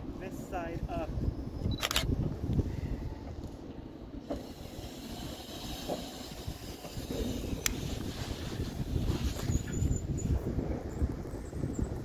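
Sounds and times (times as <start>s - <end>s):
train rumbling slowly: 0.0s - 12.0s.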